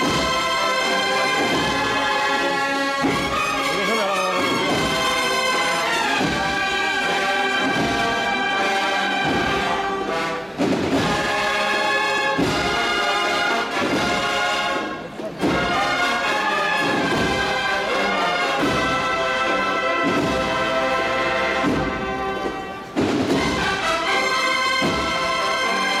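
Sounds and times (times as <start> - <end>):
brass band chords: 0.0 - 26.0
steady drum beat: 0.0 - 26.0.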